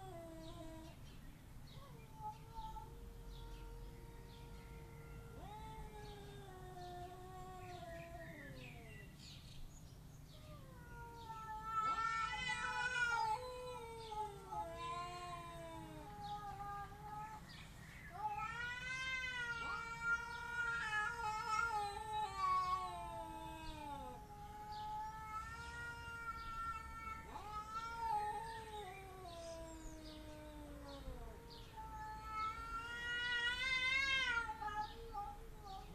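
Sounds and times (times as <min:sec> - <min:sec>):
cats yowling: 0:00.0 - 0:01.0, 0:01.7 - 0:09.2, 0:10.3 - 0:35.9.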